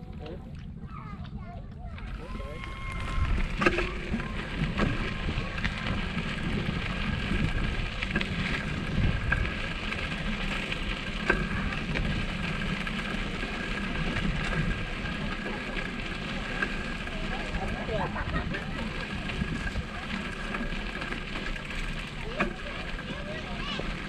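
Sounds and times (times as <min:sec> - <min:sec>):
bicycle riding over rough trail: 0:00.0 - 0:24.0.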